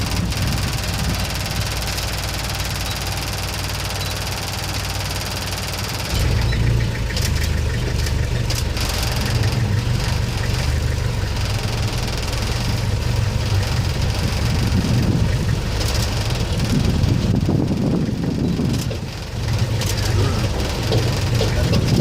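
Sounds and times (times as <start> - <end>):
jeep engine rumbling: 0.0 - 22.0.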